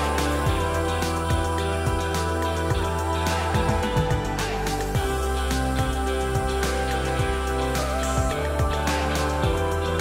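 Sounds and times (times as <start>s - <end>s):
instrumental music with light beat: 0.0s - 10.0s.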